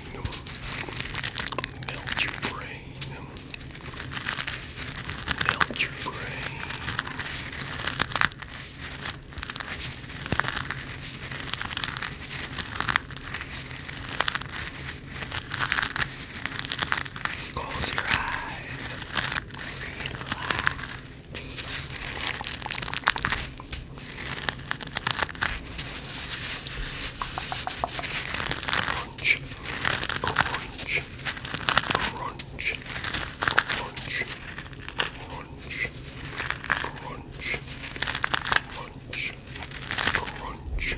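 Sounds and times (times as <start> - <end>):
hacky sack pellets crunching: 0.0 - 40.9.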